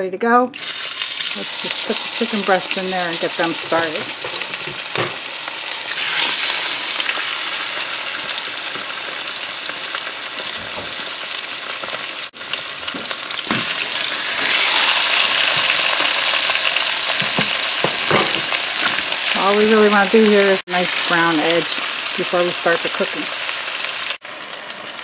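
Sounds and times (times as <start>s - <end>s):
chicken sizzling in hot oil: 0.6s - 25.0s.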